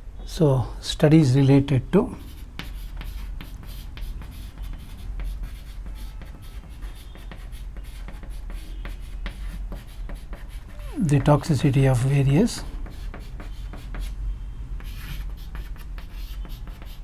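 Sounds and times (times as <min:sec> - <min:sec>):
writing scratches: 0:02.1 - 0:14.2, 0:14.8 - 0:17.0.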